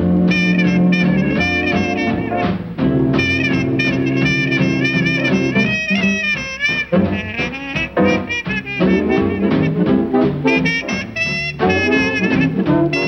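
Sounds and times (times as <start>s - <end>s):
swing jazz with brass horns: 0.0s - 13.0s.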